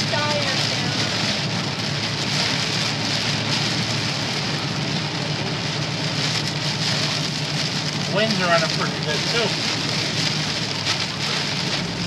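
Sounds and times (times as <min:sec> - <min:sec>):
engine and tyre hum: 0:00.0 - 0:12.0
heavy rain on vehicle: 0:00.0 - 0:12.0.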